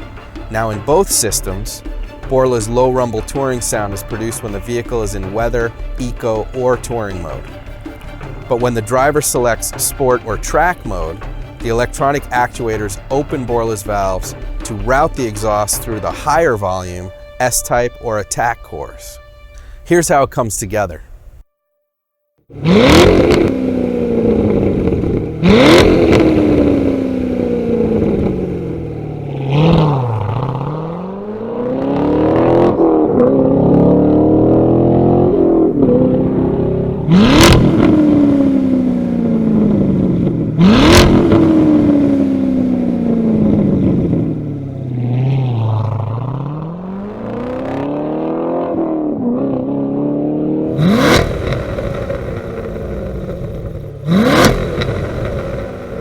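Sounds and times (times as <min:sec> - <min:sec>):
car engine revving: 0:00.0 - 0:17.4, 0:22.5 - 0:56.0.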